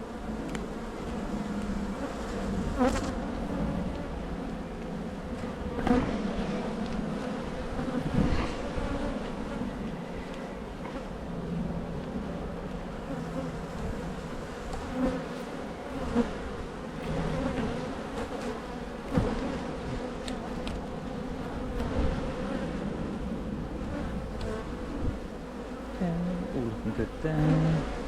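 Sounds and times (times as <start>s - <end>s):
bees humming: 0.0s - 28.0s.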